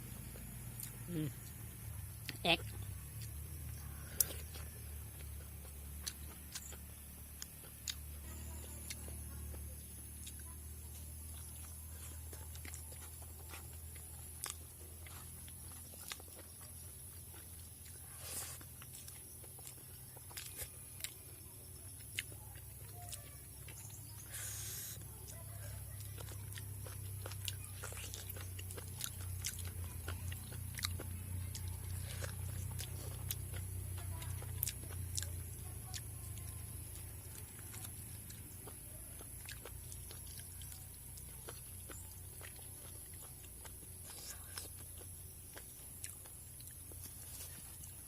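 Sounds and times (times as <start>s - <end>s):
steady low hum: 0.0s - 48.0s
chewing close to microphone: 2.2s - 48.0s.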